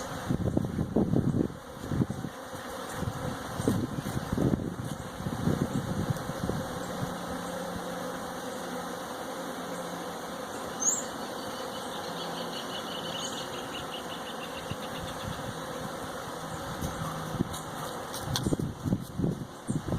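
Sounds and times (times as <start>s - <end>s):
bees buzzing: 0.0s - 19.9s.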